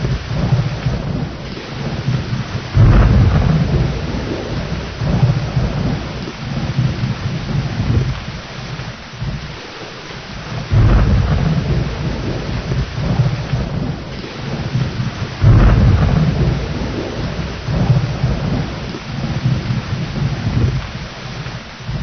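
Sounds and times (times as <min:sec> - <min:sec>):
heavy rain: 0:00.0 - 0:22.0
thunder rumbles: 0:00.0 - 0:22.0.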